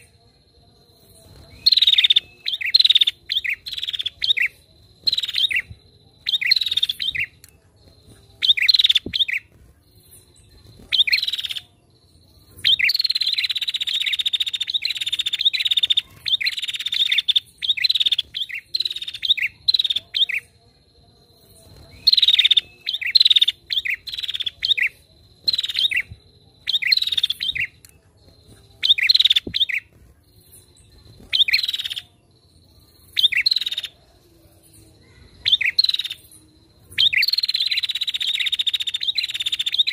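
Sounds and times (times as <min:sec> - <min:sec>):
bird chirping and chattering: 0:01.1 - 0:20.6, 0:21.4 - 0:39.9.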